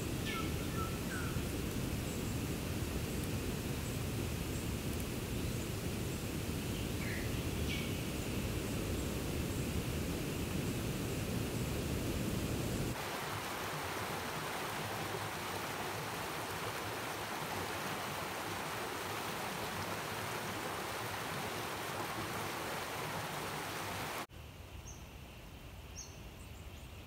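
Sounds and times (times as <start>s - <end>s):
creek water running over stones: 0.0s - 24.3s.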